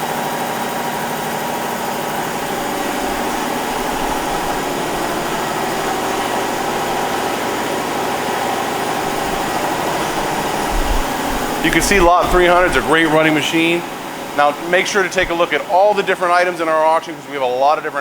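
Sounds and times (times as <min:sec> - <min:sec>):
lathe machine humming: 0:01.4 - 0:16.6.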